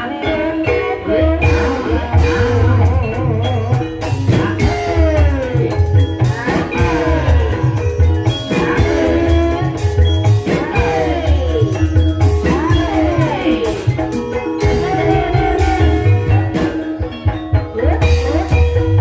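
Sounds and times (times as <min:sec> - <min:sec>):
hand drum beats: 0:00.0 - 0:19.0
ringing metallophone notes: 0:00.0 - 0:19.0.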